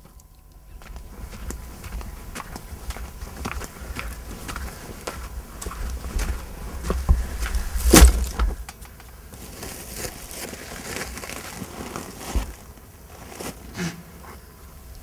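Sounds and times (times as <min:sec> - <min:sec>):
rustling and crinkling: 0:00.0 - 0:14.4.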